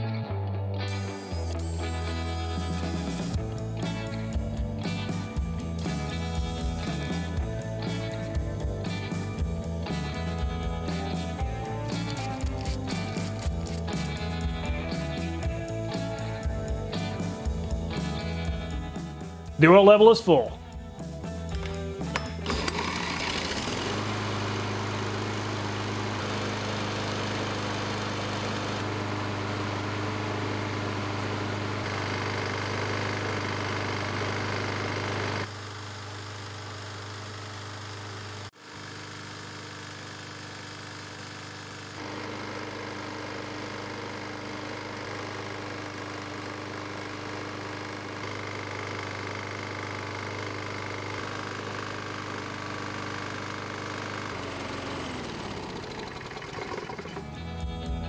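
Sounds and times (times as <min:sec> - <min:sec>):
lawnmower engine running: 0:00.9 - 0:58.0.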